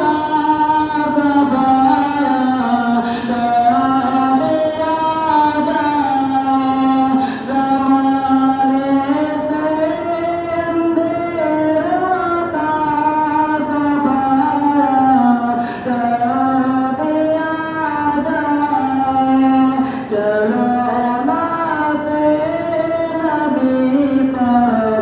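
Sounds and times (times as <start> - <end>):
person singing slow melody: 0.0 - 25.0.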